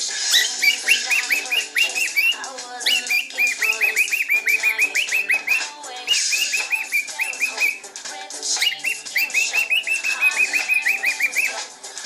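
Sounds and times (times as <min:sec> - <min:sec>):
drum music from tablet: 0:00.0 - 0:12.0
cockatiel chirping: 0:00.2 - 0:07.8, 0:08.5 - 0:11.6.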